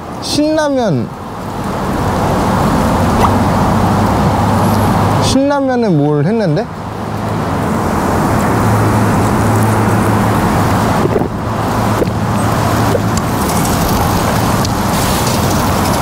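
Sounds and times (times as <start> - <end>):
road traffic noise: 0.0 - 16.0
low engine hum: 1.2 - 5.3, 6.4 - 16.0.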